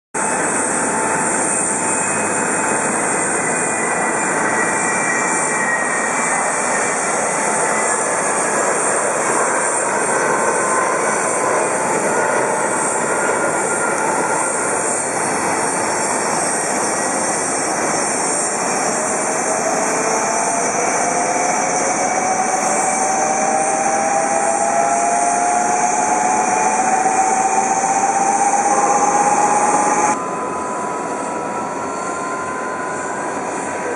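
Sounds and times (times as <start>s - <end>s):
rising engine whine: 0.2s - 33.9s
jet engine hissing: 0.4s - 30.2s.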